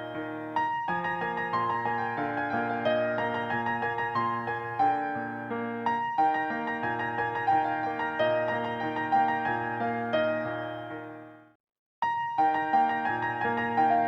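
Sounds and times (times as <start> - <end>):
gentle keyboard melody: 0.0 - 14.0.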